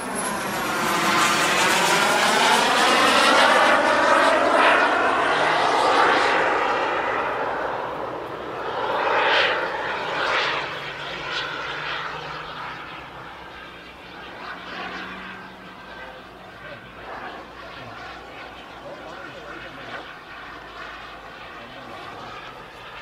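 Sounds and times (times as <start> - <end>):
model jet whooshing past: 0.0 - 23.0.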